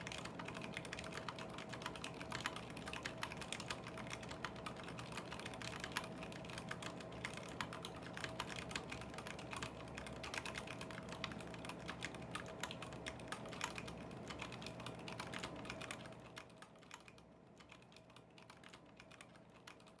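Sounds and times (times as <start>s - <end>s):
mechanical keyboard typing: 0.0s - 20.0s.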